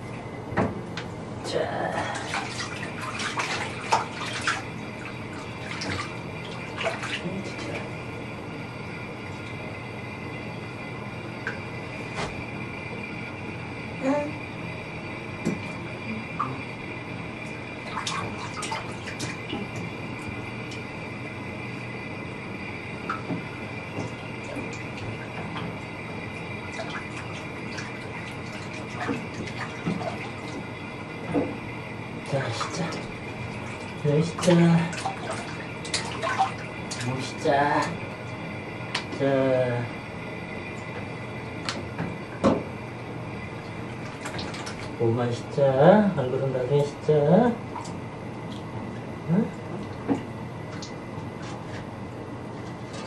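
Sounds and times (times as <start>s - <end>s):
water splashing in bathtub: 1.5s - 9.6s, 14.3s - 53.0s.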